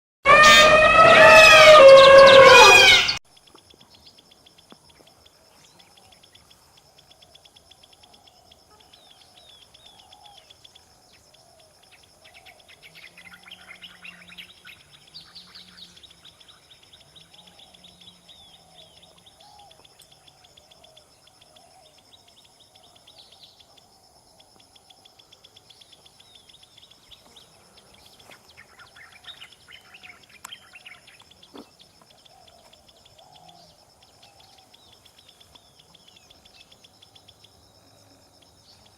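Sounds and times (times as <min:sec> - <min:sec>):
birds chirping: 0:00.3 - 0:38.9.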